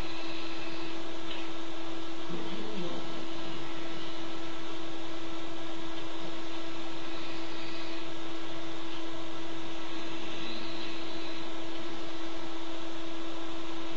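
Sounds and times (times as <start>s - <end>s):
constant hum: 0.0s - 13.9s
steady hiss: 0.0s - 13.9s.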